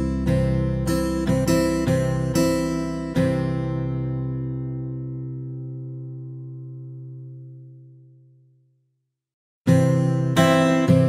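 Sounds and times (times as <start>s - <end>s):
acoustic guitar strumming: 0.0s - 8.1s, 9.7s - 11.0s.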